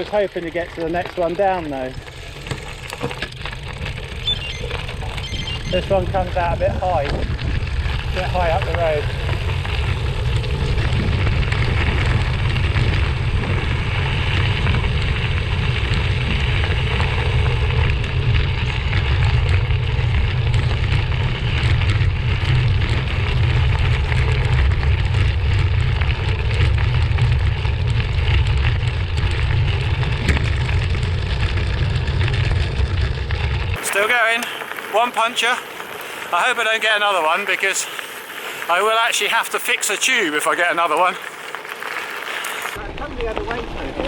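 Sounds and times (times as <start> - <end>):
wind rumbling on microphone: 0.0 - 38.8, 41.2 - 44.0
tyres crunching and bike rattling: 0.0 - 44.0.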